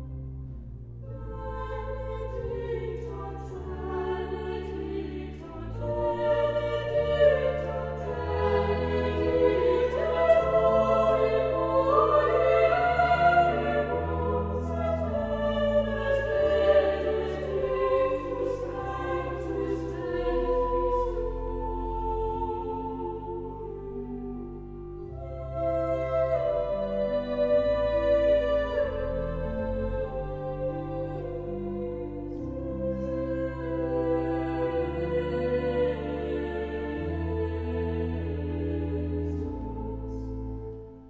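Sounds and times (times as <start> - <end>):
slow classical music: 0.0 - 41.0.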